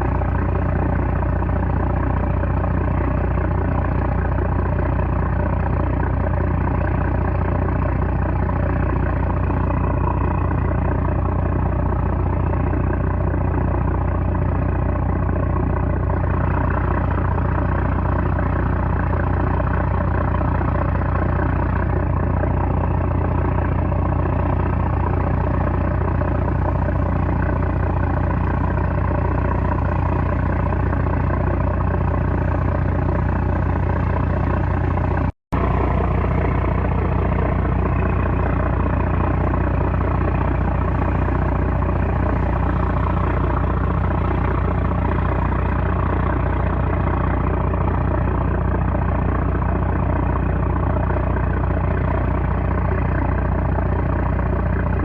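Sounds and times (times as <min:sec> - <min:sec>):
boat engine droning steadily: 0:00.0 - 0:55.0.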